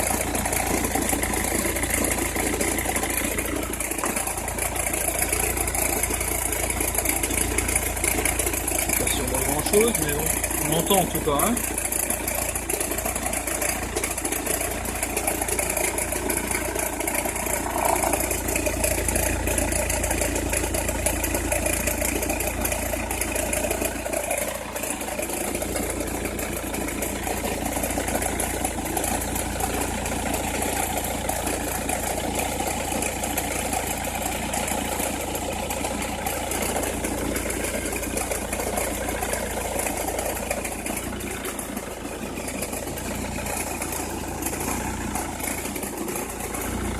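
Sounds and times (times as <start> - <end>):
car engine idling: 0.0 - 46.9
engine crackling noise: 0.0 - 46.9.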